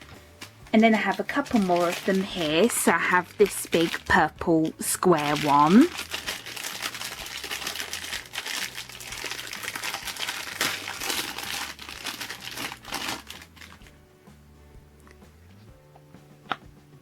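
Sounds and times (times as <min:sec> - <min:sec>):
crinkling plastic packaging: 0:00.0 - 0:13.9
soft background music: 0:00.0 - 0:17.0.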